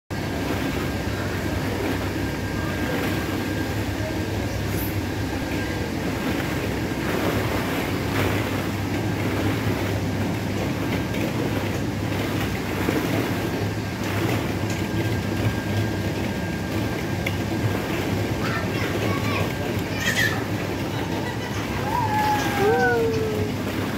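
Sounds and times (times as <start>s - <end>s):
machine hum: 0.1s - 23.9s.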